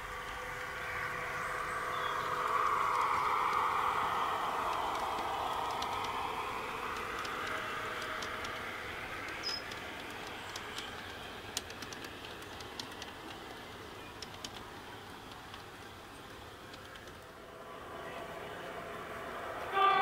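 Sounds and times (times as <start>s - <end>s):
wheels clicking over rail joints: 0.0s - 17.4s
model train coaches rumbling: 0.0s - 20.0s.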